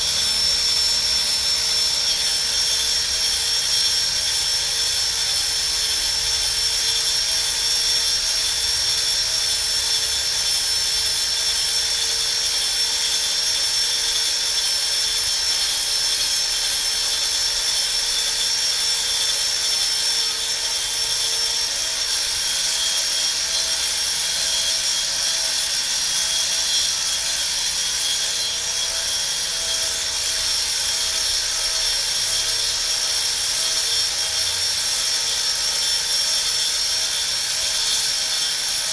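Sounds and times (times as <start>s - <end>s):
cutting spindle high-pitched whine: 0.0s - 38.9s.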